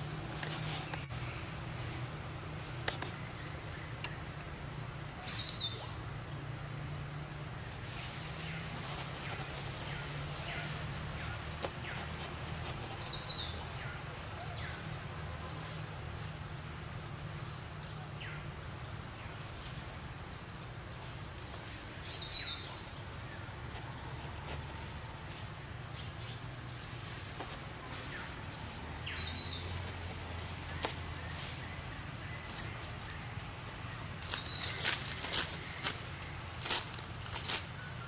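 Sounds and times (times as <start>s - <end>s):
low outdoor hum: 0.0s - 38.0s.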